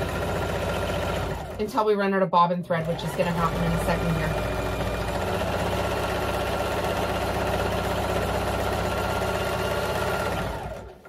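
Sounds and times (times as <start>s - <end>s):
sewing machine running fast: 0.0s - 1.7s, 2.8s - 11.0s.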